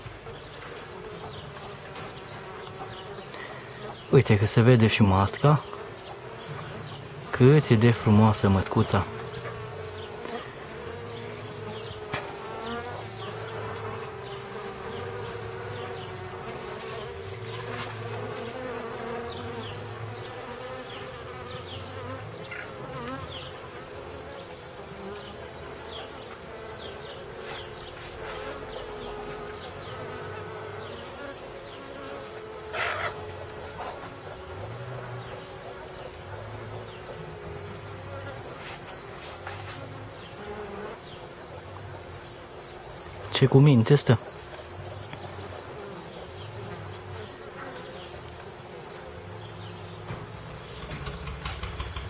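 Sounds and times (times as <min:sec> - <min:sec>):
honeybees humming: 0:00.0 - 0:52.0.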